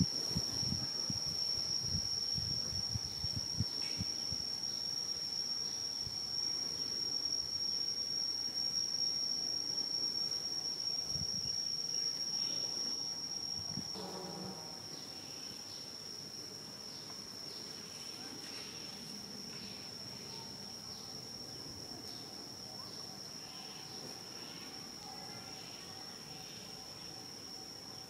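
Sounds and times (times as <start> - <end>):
insects droning whine: 0.0 - 28.0.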